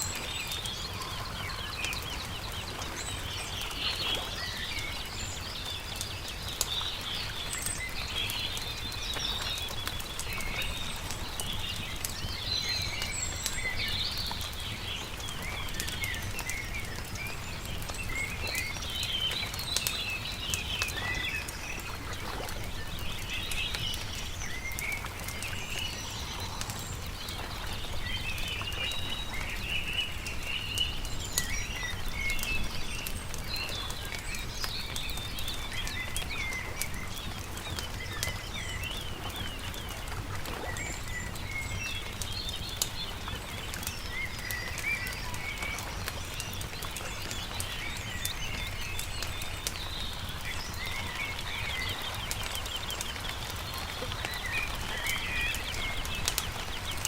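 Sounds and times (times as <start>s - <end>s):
campfire crackling and popping: 0.0s - 57.0s
small birds chirping: 0.0s - 57.0s.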